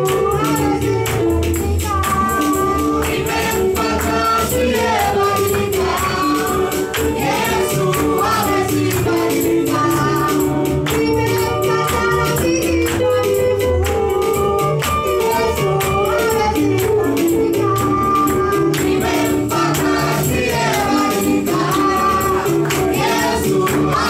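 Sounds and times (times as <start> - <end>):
voices singing along: 0.0 - 13.4, 18.0 - 24.0
quick tambourine beat: 0.0 - 24.0
woman singing into a microphone: 0.0 - 24.0.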